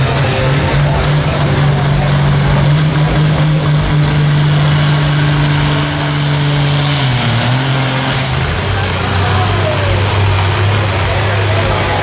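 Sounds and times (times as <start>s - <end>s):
rough exhaust noise: 0.0s - 12.0s
tractor engine running loud: 0.0s - 12.0s.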